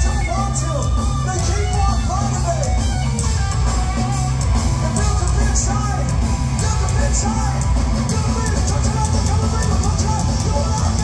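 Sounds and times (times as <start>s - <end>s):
bass guitar: 0.0s - 11.0s
distorted electric guitar: 0.0s - 11.0s
drums with crashing cymbals: 0.0s - 11.0s.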